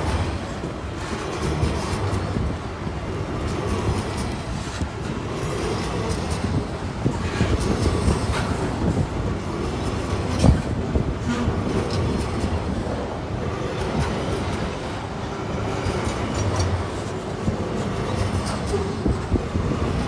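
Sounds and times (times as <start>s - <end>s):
freight train rumble: 0.0s - 20.0s
train wagons clanking: 0.0s - 20.0s.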